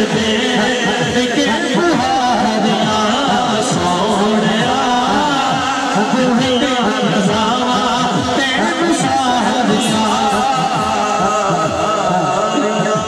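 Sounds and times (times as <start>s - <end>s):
man singing through sound system: 0.0s - 13.0s.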